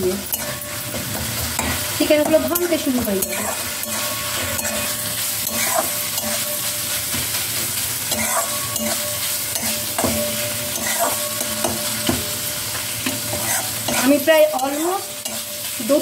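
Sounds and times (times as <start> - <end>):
chicken sizzling: 0.0 - 16.0
metal spatula clinking on pan: 0.3 - 7.2, 8.1 - 15.8.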